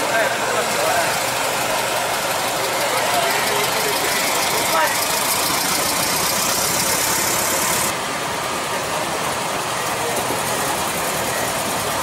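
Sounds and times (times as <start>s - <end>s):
car engines driving slowly past: 0.0s - 12.0s.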